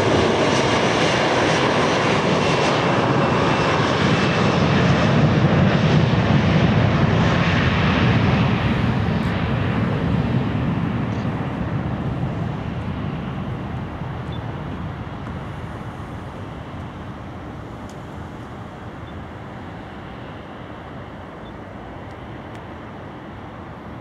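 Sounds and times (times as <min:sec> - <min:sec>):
jet engines at takeoff: 0:00.0 - 0:24.0.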